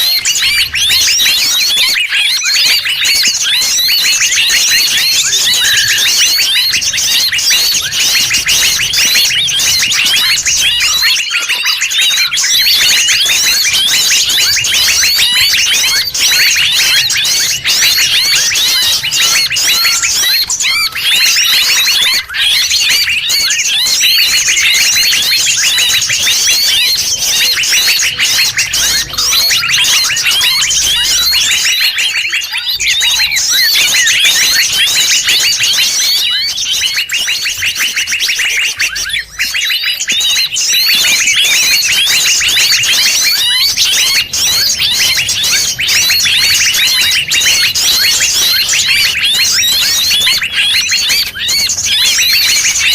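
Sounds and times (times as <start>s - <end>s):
chorus of bird chirps and trills: 0.0s - 52.9s.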